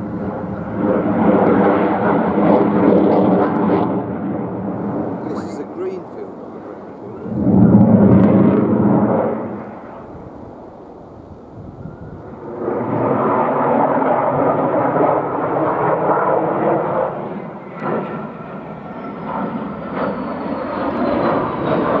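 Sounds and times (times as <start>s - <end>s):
fighter jet noise: 0.0s - 22.0s.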